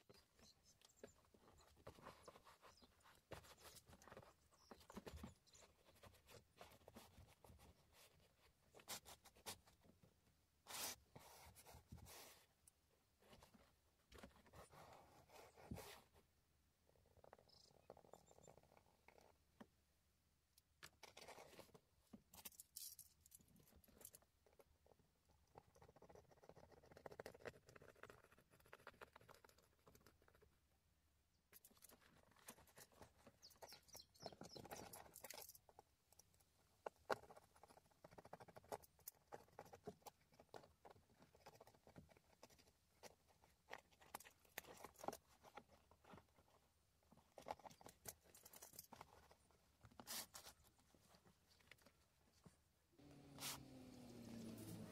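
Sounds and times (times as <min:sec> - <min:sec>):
carpet and wiring rustling: 0:00.0 - 0:54.9.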